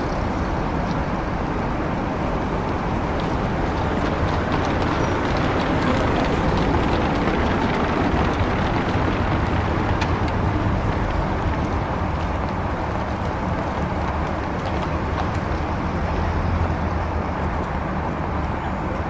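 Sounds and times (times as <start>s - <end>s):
low engine hum: 0.0s - 19.0s
traffic noise: 0.0s - 19.0s.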